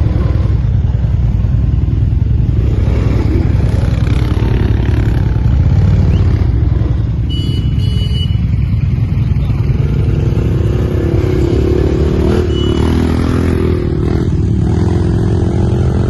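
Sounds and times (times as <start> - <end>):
quad bike engine rumbling: 0.0 - 16.0.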